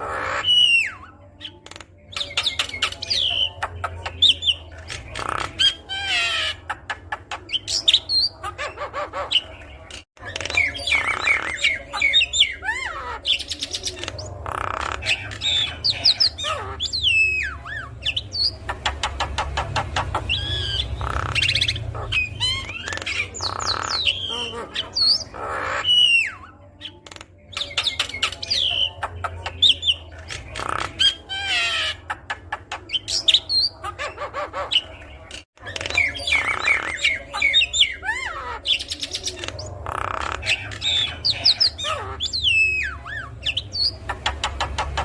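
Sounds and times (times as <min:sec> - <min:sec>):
bird singing chattering song: 0:00.0 - 0:45.0.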